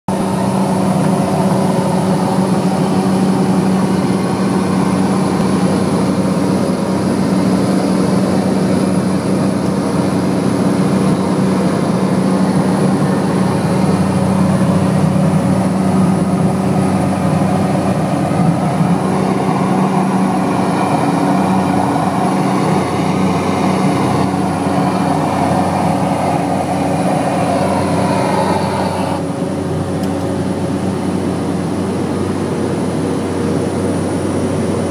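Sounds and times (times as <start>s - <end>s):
propeller airplane engine droning: 0.1s - 34.9s.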